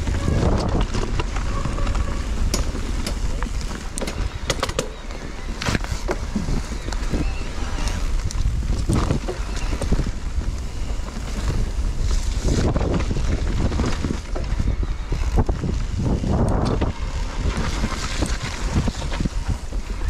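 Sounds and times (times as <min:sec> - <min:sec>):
bike rattling and knocking: 0:00.0 - 0:20.0
bike tyre rumble: 0:00.0 - 0:20.0
wind buffeting microphone: 0:00.0 - 0:20.0.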